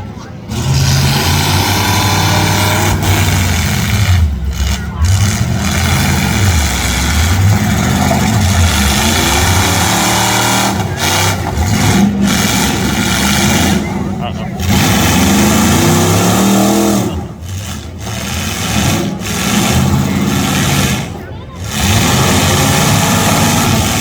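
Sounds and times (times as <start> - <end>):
car engines revving loudly: 0.0 - 24.0.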